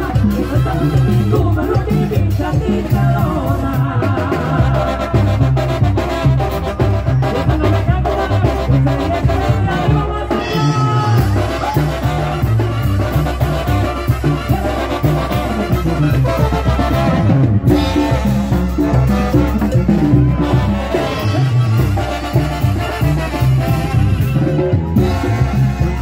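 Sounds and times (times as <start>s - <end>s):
band playing latin dance music: 0.0s - 26.0s.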